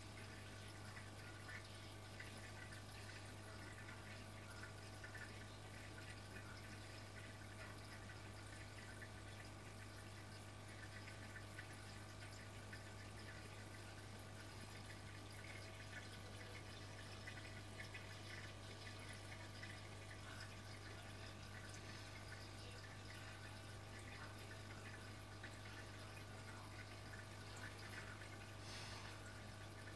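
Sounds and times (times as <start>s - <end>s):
aquarium pump humming: 0.0s - 29.9s
water trickling and dripping: 0.0s - 29.9s.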